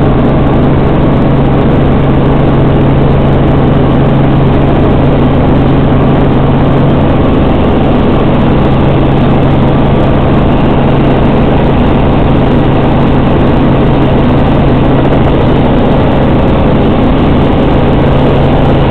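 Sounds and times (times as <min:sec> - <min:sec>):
helicopter engine and rotors: 0:00.0 - 0:18.9.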